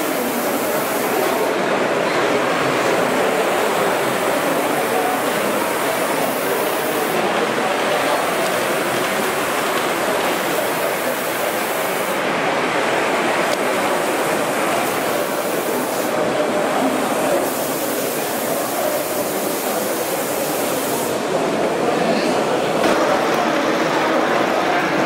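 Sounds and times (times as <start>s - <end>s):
model train running on track: 0.0s - 21.8s, 23.0s - 25.0s
crowd hubbub in a hall: 0.0s - 25.0s.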